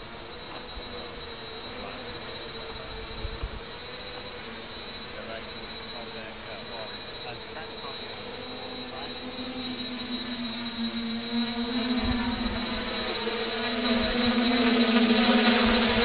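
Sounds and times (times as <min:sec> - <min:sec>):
drone motors humming with whine: 0:00.0 - 0:16.0.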